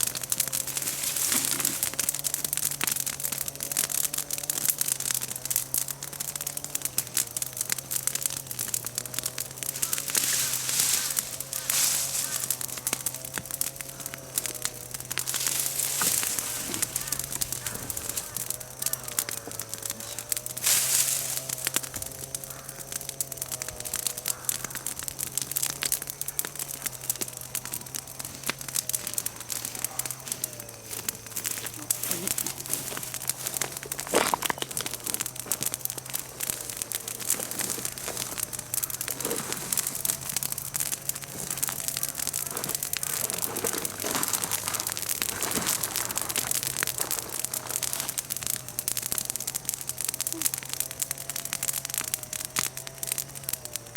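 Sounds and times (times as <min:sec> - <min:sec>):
bonfire crackling and popping: 0:00.0 - 0:53.9
steady wavering hum: 0:06.6 - 0:50.2.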